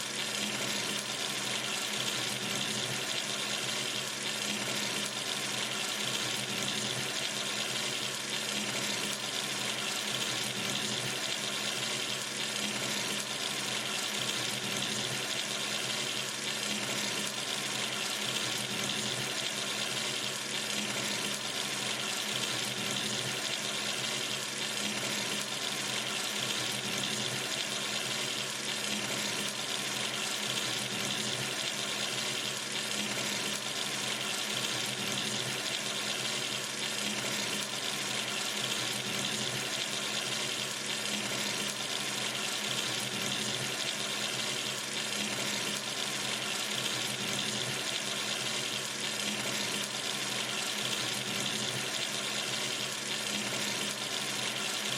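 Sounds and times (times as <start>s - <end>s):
tap water running into sink: 0.0s - 54.9s.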